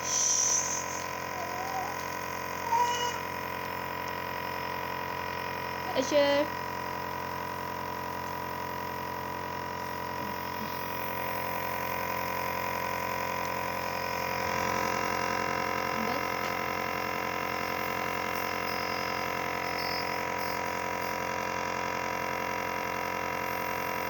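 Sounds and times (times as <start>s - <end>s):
compressor nebulizer humming: 0.0s - 24.0s.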